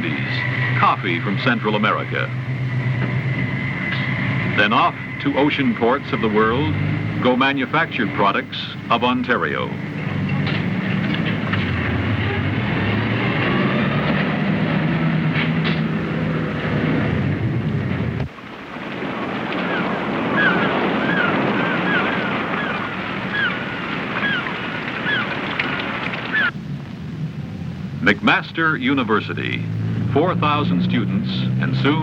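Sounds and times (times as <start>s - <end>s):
ship engine humming: 0.0s - 32.0s
wind and water noise: 0.0s - 32.0s.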